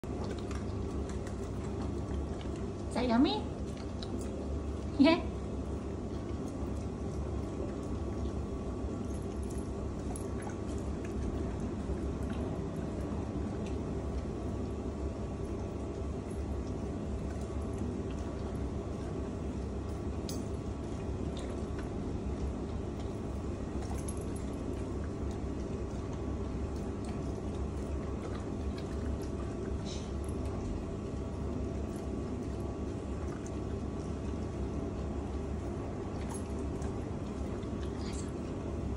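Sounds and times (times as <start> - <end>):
dog chewing wetly: 0.0 - 38.9
low hum: 0.0 - 38.9.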